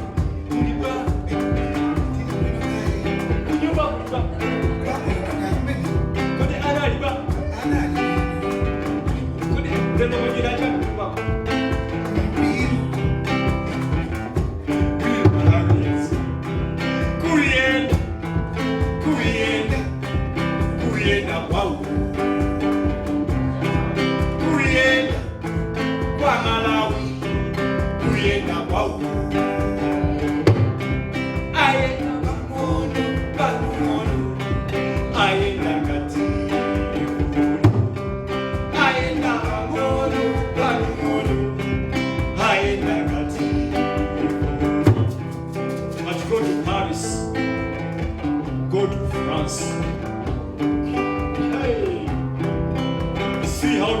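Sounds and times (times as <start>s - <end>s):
acoustic guitar playing: 0.0s - 54.0s
man singing: 0.0s - 54.0s.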